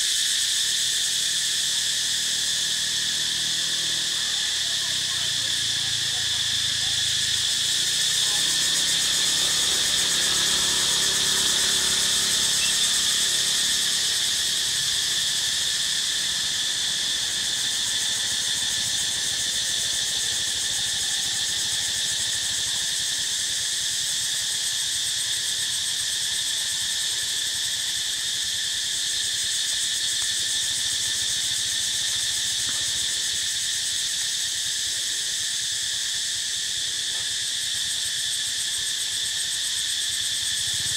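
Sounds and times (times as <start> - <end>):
forest insect chorus: 0.0 - 40.9.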